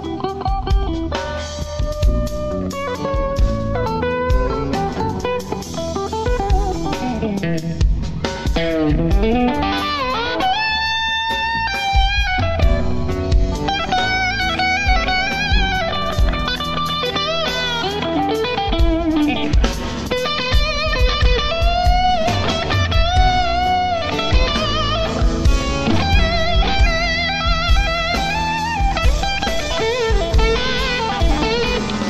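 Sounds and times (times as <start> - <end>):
bass guitar: 0.0 - 32.0
drums: 0.0 - 32.0
lead electric guitar bends: 0.0 - 32.0.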